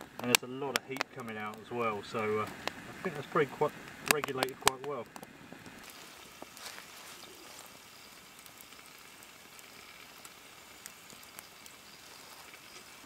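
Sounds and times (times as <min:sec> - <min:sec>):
food sizzling in oil: 0:00.0 - 0:13.0
wood fire crackling: 0:00.0 - 0:13.0.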